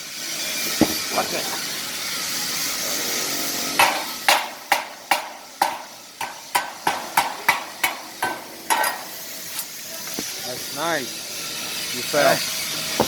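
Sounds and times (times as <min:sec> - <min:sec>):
welding arc hissing and crackling: 0:00.0 - 0:13.0.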